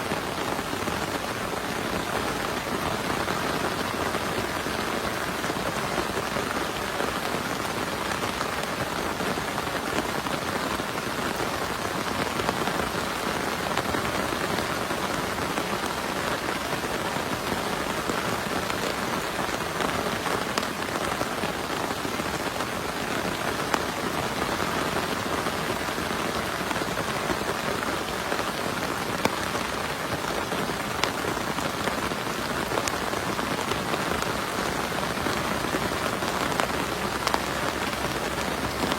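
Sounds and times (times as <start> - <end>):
heavy rain falling: 0.0 - 38.9
raindrops ticking close by: 0.0 - 38.9.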